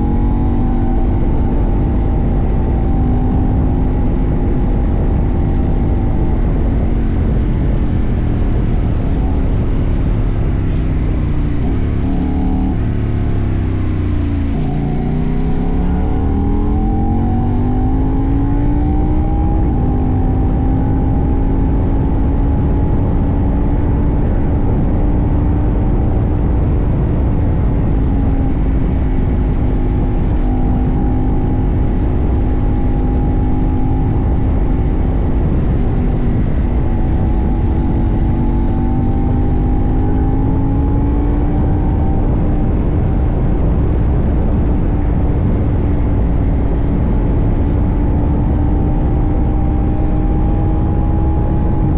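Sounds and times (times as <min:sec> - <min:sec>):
heavy wind rush: 0:00.0 - 0:51.9
motorcycle engine revving: 0:00.0 - 0:51.9.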